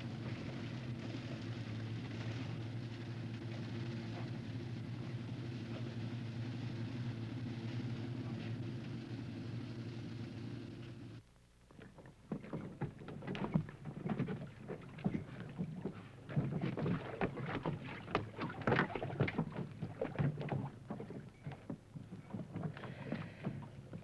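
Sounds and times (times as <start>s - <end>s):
water and fish splashing on deck: 0.0s - 9.4s, 11.7s - 24.0s.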